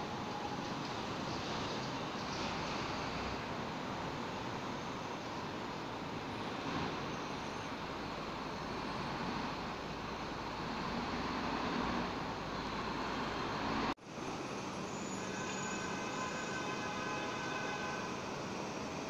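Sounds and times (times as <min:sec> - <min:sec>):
distant traffic: 0:00.0 - 0:19.0
wind: 0:00.0 - 0:19.0.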